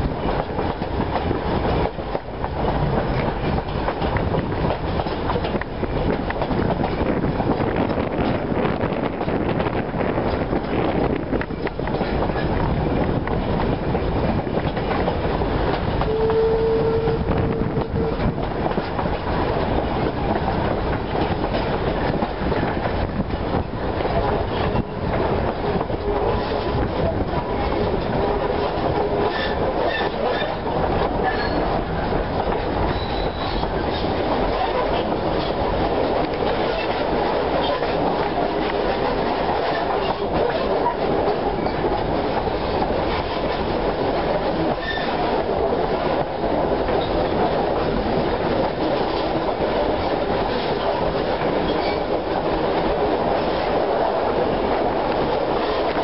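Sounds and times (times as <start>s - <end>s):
clickety-clack of rail joints: 0.0s - 56.0s
train wheels rumbling on track: 0.0s - 56.0s.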